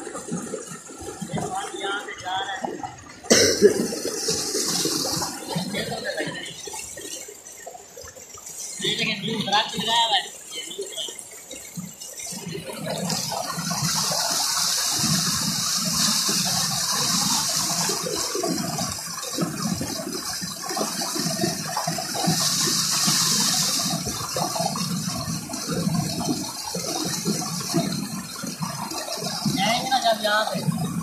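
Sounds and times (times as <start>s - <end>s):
water gushing into a concrete tank: 0.0s - 31.0s.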